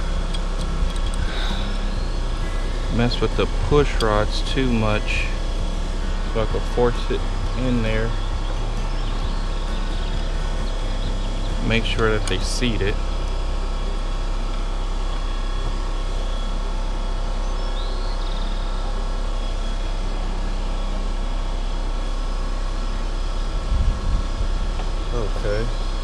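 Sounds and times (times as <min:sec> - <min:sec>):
faint chirp: 0:00.0 - 0:23.4
machine hum with low drone: 0:00.0 - 0:26.0.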